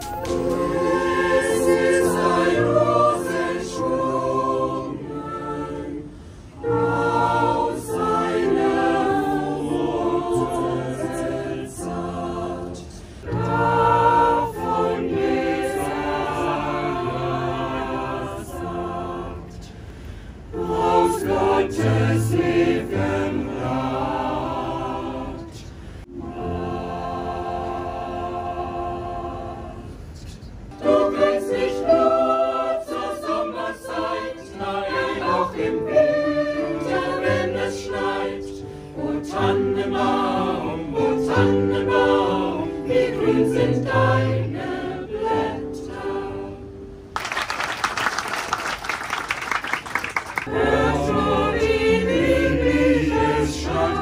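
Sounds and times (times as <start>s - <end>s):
mixed choir singing a cappella: 0.0s - 19.8s, 20.4s - 47.0s, 50.4s - 54.0s.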